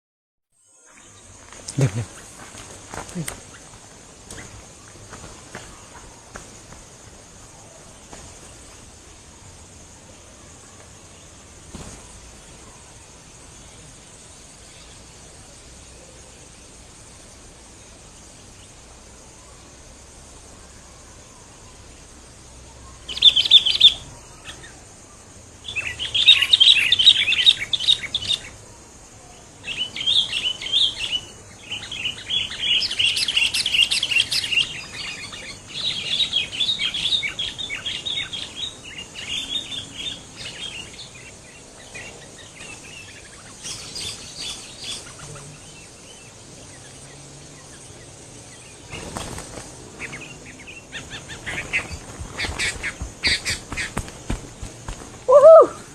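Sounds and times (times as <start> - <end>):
bulbuls chirping: 0.7 - 55.9.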